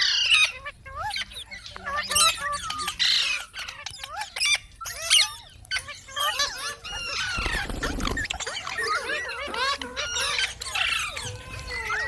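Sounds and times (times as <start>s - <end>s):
parrots chattering and squawking: 0.0s - 12.0s.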